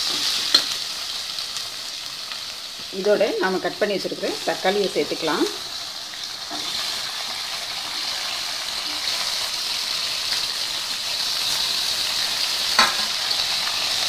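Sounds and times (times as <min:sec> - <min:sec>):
tomatoes and onions sizzling in oil: 0:00.0 - 0:14.0.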